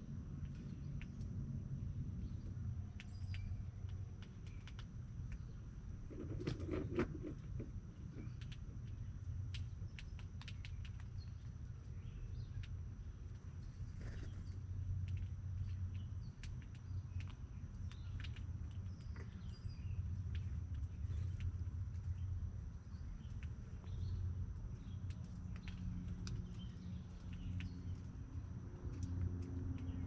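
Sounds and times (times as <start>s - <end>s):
small ticks: 0.3s - 1.4s, 2.2s - 30.0s.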